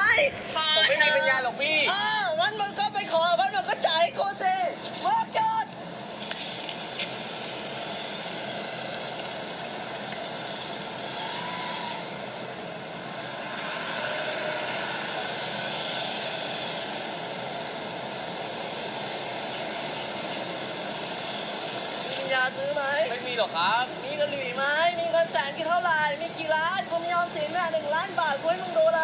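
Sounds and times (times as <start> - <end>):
passing traffic: 0.0 - 29.0
wind: 0.0 - 29.0.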